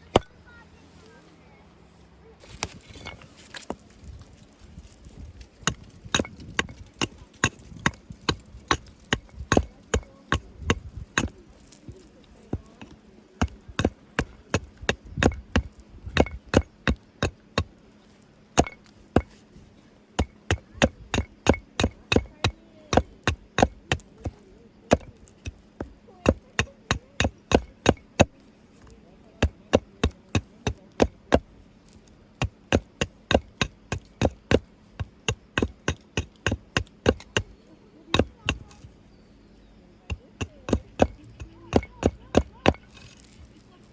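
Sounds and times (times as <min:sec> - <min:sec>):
wood being struck: 0:00.0 - 0:00.4, 0:05.5 - 0:19.6, 0:20.2 - 0:39.0, 0:40.1 - 0:43.6.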